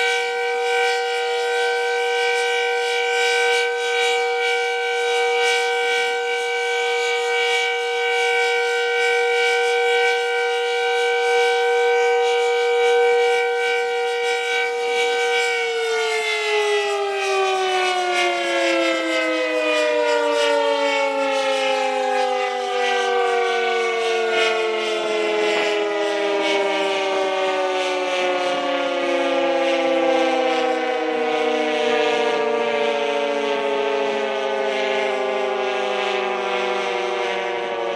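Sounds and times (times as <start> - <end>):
warning siren winding down: 0.0 - 37.9.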